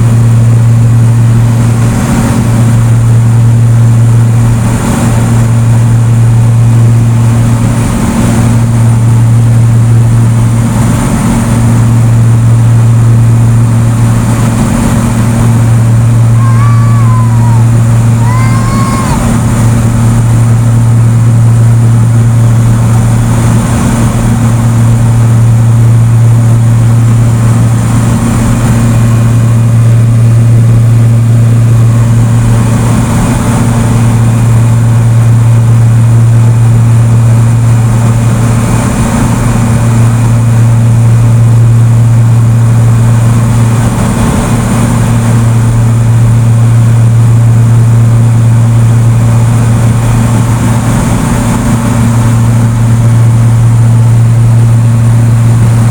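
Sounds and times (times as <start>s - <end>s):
airplane propeller engine drone: 0.0s - 55.9s.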